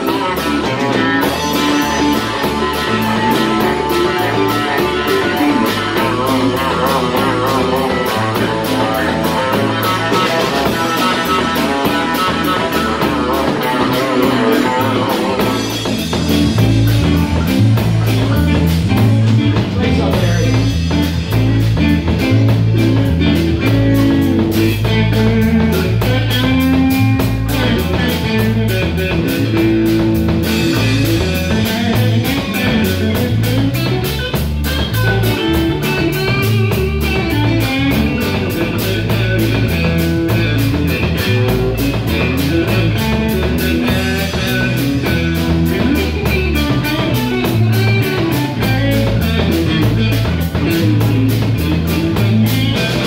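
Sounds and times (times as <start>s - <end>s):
drum kit: 0.0s - 53.0s
electric bass: 0.0s - 53.0s
electric guitar: 0.0s - 53.0s.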